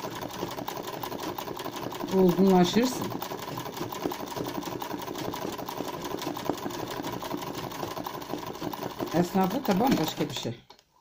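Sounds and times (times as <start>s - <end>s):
sewing machine stitching: 0.0s - 10.8s.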